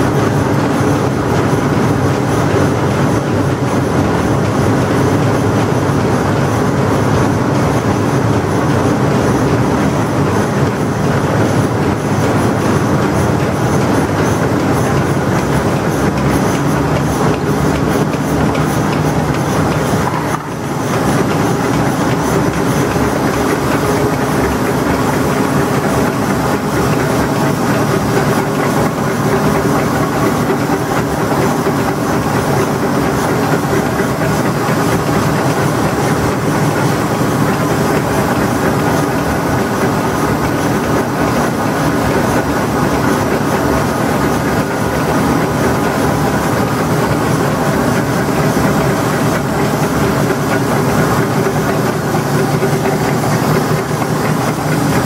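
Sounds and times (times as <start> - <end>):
printing press rollers din: 0.0 - 55.0
steady multi-tone hum: 0.0 - 55.0.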